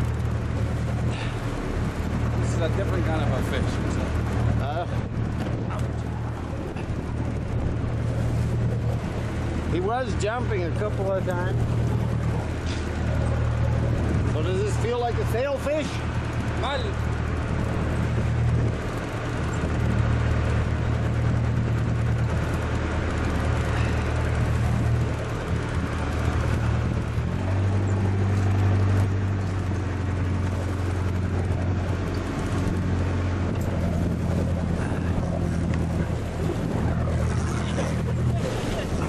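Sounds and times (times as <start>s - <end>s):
boat engine running: 0.0s - 39.0s
wind: 0.0s - 39.0s.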